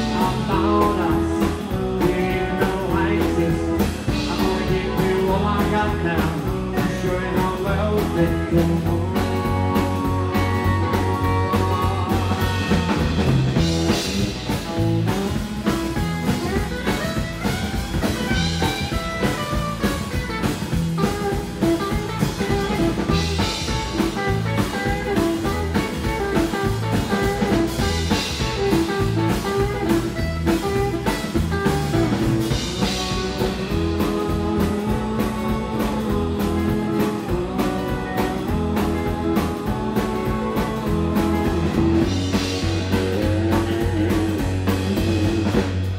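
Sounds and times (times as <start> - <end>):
rockabilly band playing live: 0.0 - 45.9.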